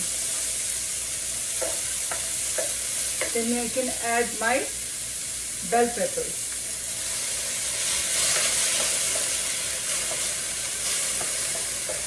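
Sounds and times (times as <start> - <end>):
vegetables sizzling in skillet: 0.0 - 12.0.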